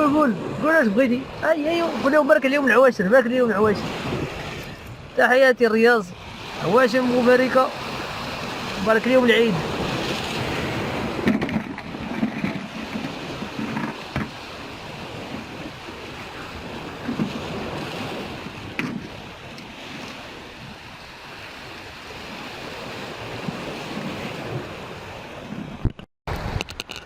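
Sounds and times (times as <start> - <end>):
sea waves washing on shore: 0.0 - 27.0
wind on microphone: 3.5 - 5.2, 6.1 - 27.0.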